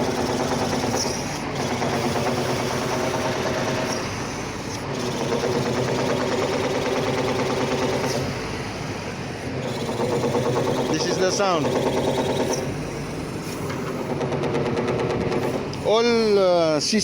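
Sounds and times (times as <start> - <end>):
rapid metallic clatter: 0.0 - 8.6, 9.6 - 16.2
hydraulic system droning: 0.0 - 17.0.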